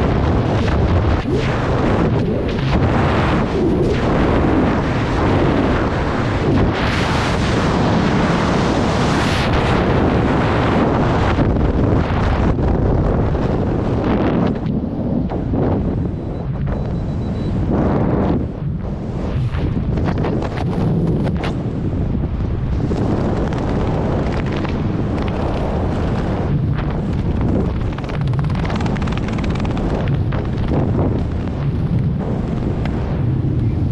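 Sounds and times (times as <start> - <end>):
freefall wind buffeting microphone: 0.0 - 33.9.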